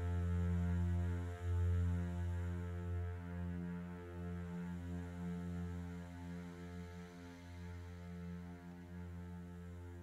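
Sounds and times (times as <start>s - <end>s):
keyboard low sustained chord: 0.0s - 10.0s.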